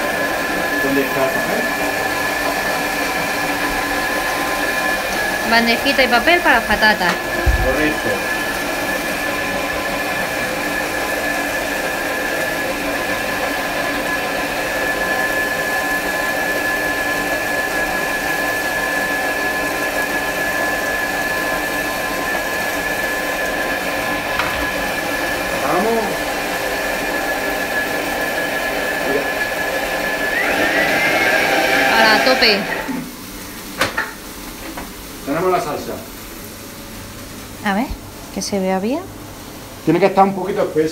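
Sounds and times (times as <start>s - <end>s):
kitchen blender motor humming: 0.0s - 33.7s.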